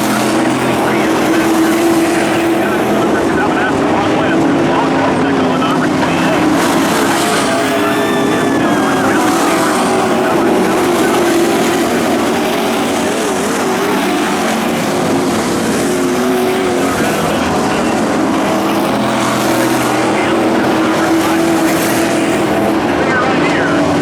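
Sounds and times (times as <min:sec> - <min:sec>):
racing truck engines droning: 0:00.0 - 0:24.0.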